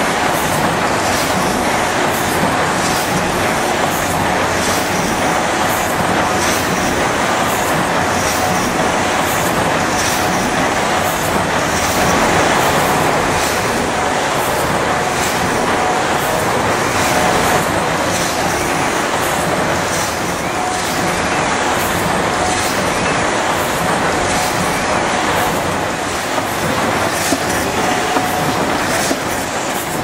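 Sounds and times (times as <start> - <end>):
steam engine running: 0.0 - 30.0.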